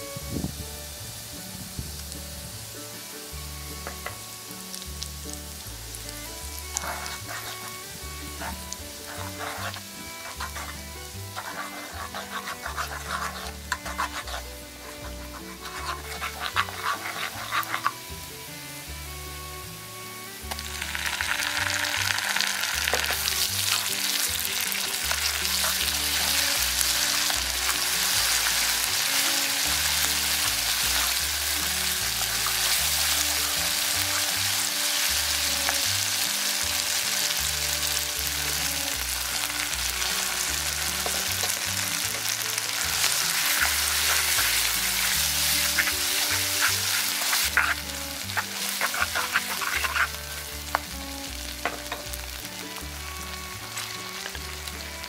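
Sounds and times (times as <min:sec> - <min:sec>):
garlic sizzling in hot oil: 0:00.0 - 0:55.0
wooden spatula scraping a pan: 0:05.5 - 0:18.4, 0:20.5 - 0:55.0.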